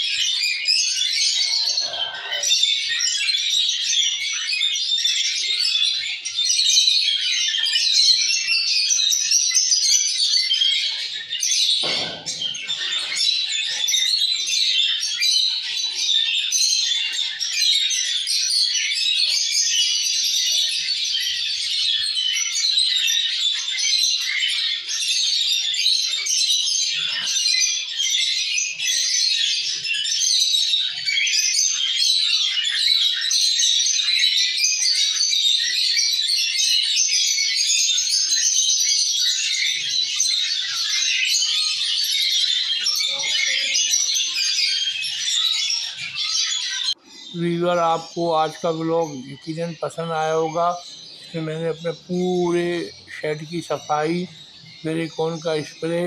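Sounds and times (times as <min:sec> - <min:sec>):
caged birds chirping: 0:00.0 - 0:56.0.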